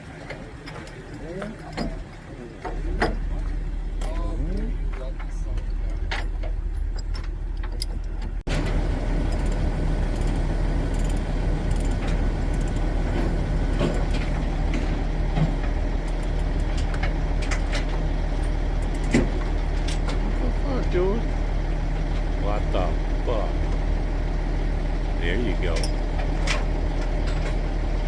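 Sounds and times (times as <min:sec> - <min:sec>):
heavy machinery engine running: 0:00.0 - 0:28.0.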